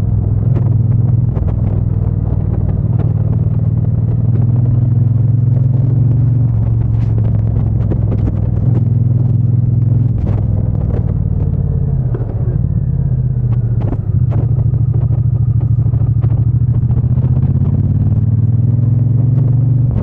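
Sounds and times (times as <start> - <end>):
motorcycle engine and exhaust: 0.0 - 20.0.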